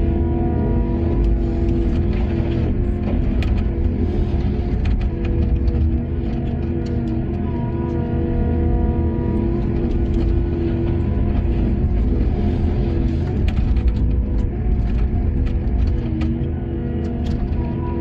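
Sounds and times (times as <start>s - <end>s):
heavy machinery engine rumble: 0.0s - 18.0s.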